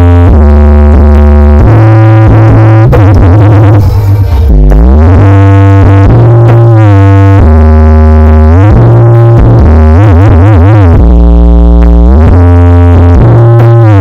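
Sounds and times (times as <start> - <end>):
loud synthesizer music with deep bass: 0.0 - 14.0.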